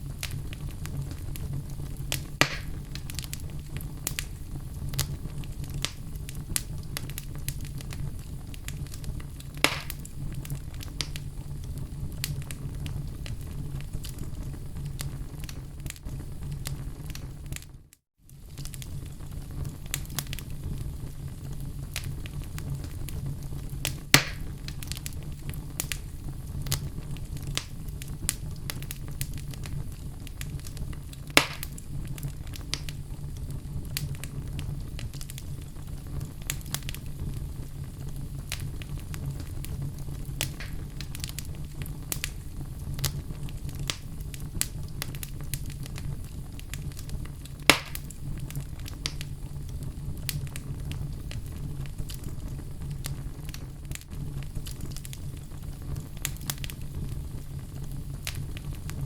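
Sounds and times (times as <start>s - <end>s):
burning logs crackling: 0.0s - 59.0s
loud fire pops: 0.0s - 59.0s
low rumble of flames: 0.0s - 59.0s.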